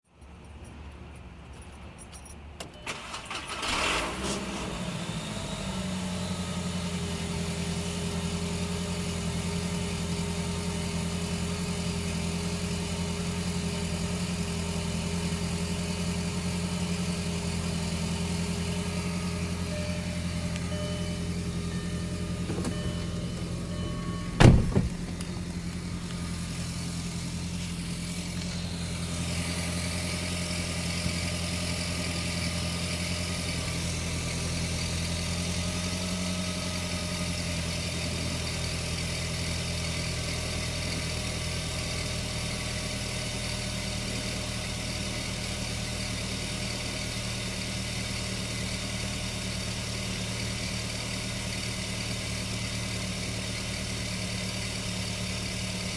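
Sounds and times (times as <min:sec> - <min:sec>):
car engine idling: 0:02.9 - 0:55.9.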